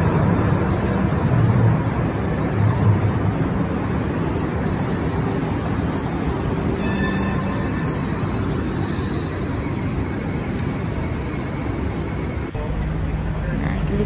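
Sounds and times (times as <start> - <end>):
train wheels on rails: 0.0 - 14.0.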